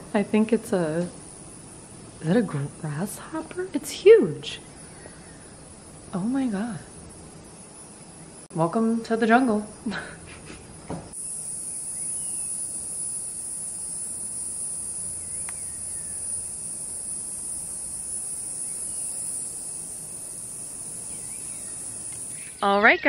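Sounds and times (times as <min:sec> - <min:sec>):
faint insect chirps: 0:00.0 - 0:23.0
insects droning: 0:00.0 - 0:23.0.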